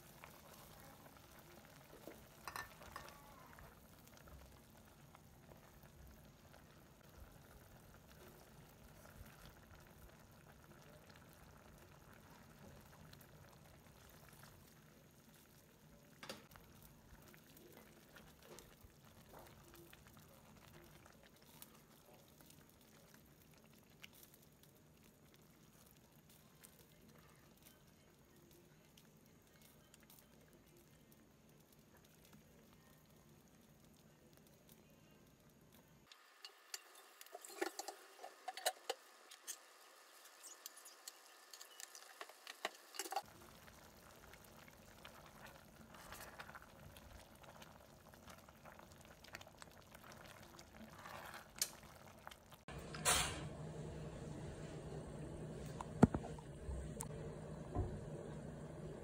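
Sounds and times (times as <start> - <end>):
sauce bubbling in a pot: 0.0 - 59.0.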